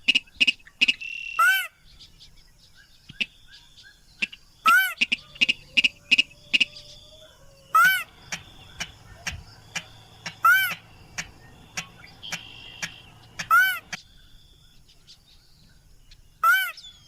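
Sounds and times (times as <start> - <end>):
loud nasal bird call: 0.0 - 14.9, 16.4 - 17.0.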